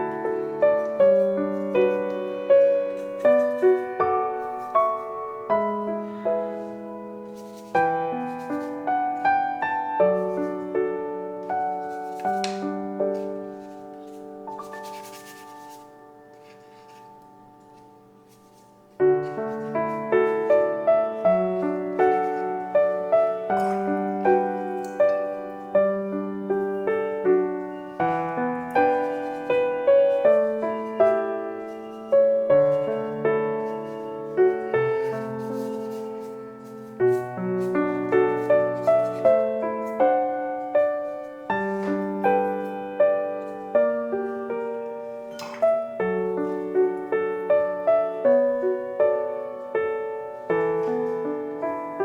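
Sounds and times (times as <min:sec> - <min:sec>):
gentle piano melody: 0:00.0 - 0:52.0.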